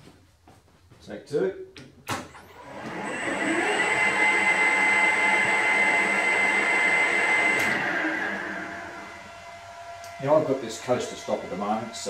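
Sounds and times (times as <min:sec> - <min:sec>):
lathe motor whining: 0:02.3 - 0:12.0.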